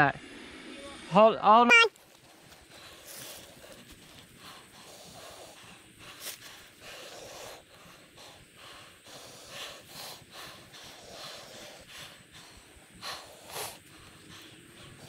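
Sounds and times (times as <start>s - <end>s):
hard breathing puffs: 2.0s - 15.0s.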